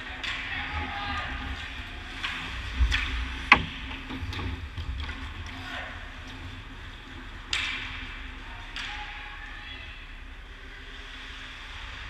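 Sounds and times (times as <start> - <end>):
low rink background: 0.0 - 12.0.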